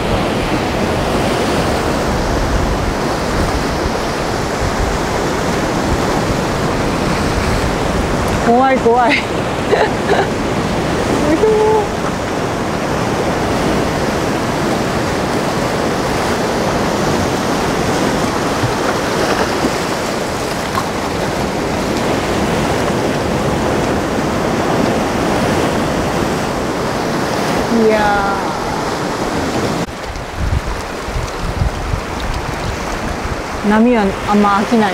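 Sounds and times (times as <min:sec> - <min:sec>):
surf breaking on rocks: 0:00.0 - 0:34.9.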